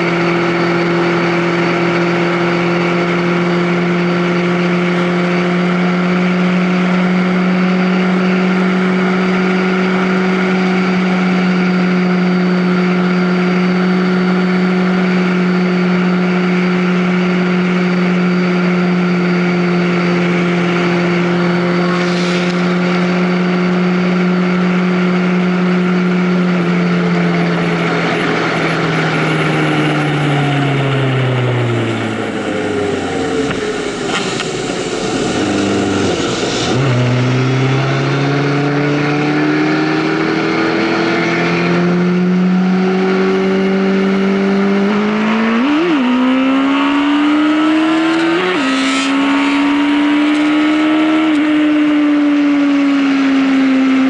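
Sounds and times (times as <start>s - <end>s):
vehicle engine running: 0.0s - 54.0s
wind and road noise: 0.0s - 54.0s.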